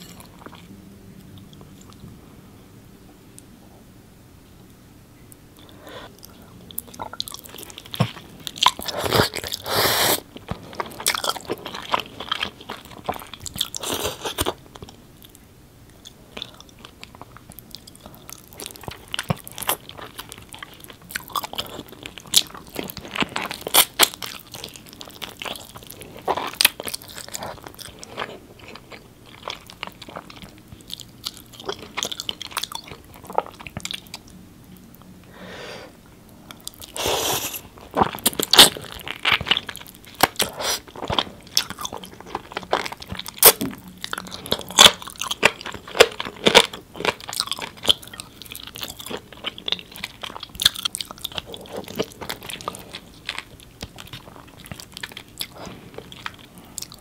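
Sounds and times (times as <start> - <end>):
person chewing crunchy food: 0.0 - 2.1, 5.6 - 35.0, 36.3 - 57.0.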